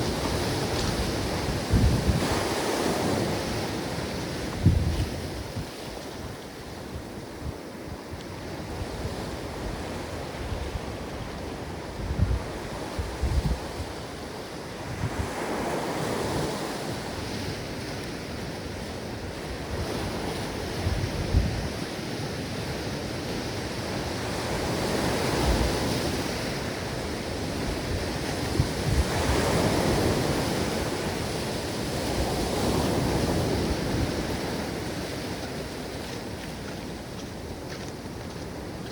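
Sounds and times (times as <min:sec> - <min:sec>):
wind buffeting microphone: 0:00.0 - 0:18.2, 0:18.8 - 0:38.9
ocean waves breaking: 0:00.0 - 0:20.8, 0:21.8 - 0:38.9.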